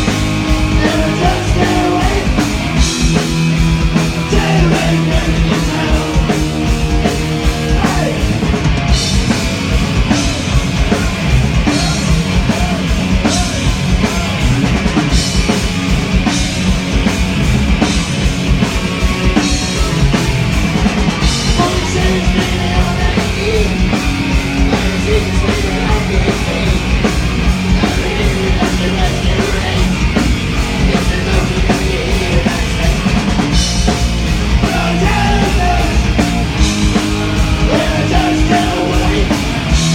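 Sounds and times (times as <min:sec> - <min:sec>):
fast drum beat: 0:00.0 - 0:39.9
heavy rock band: 0:00.0 - 0:39.9.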